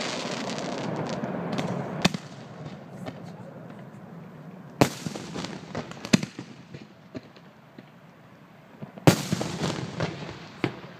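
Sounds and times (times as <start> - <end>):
loud firework bangs: 0.0 - 3.8, 4.8 - 8.0, 8.8 - 10.9
firework pops and crackles: 0.0 - 3.9, 4.7 - 8.2, 8.8 - 10.9.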